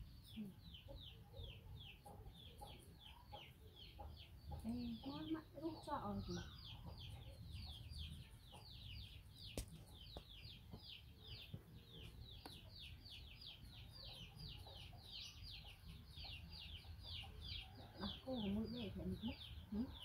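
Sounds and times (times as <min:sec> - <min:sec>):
bird chirping high peeps: 0:00.0 - 0:20.0.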